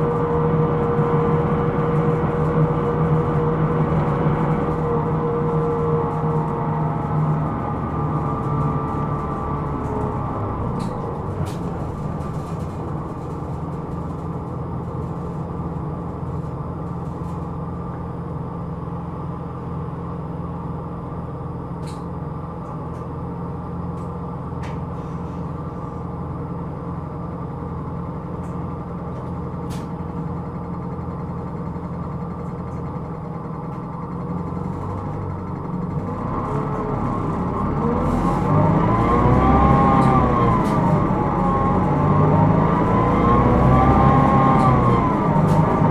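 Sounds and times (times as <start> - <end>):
bus engine drone: 0.0 - 45.9.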